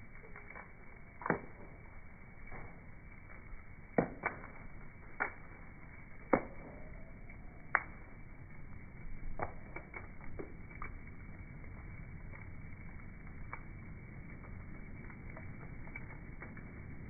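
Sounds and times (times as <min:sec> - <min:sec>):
bonfire crackling: 0:00.0 - 0:17.0
dull low pops: 0:00.0 - 0:17.0.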